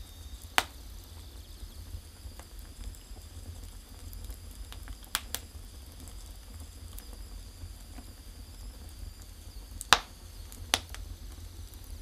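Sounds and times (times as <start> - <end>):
firewood crackling and popping: 0.0 - 12.0.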